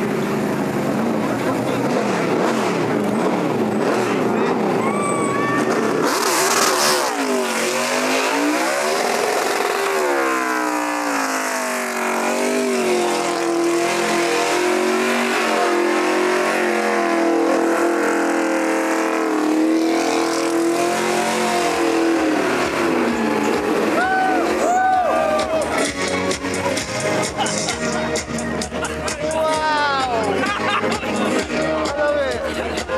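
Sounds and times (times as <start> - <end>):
car engine revving hard: 0.0 - 32.9.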